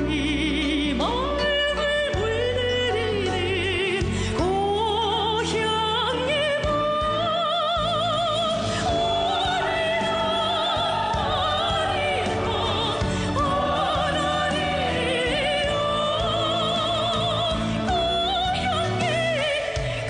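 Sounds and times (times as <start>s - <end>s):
instrumental accompaniment: 0.0s - 20.0s
person singing with vibrato: 0.0s - 20.0s.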